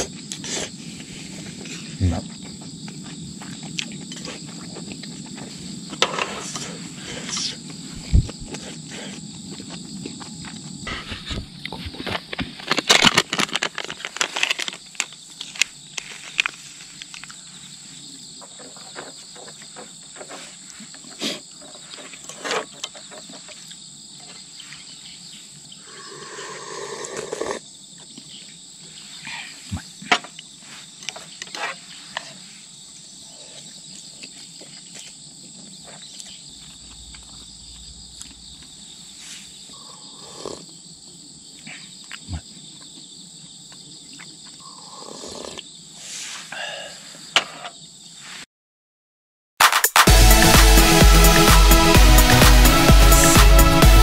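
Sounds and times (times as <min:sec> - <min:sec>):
insects chirring: 0:00.0 - 0:48.5.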